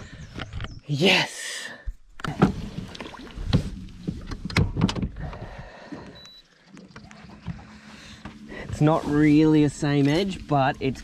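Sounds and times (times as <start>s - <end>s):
knocks and clunks in boat: 2.2s - 11.0s.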